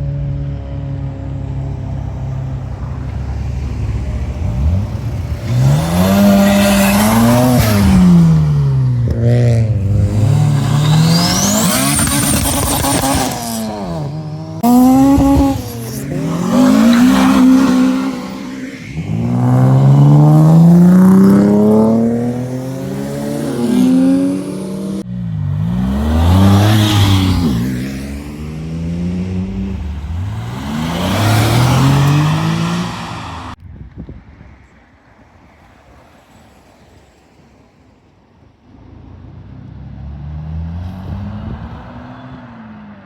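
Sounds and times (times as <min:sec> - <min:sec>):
car engines revving hard: 0:00.0 - 0:33.6, 0:38.9 - 0:43.0.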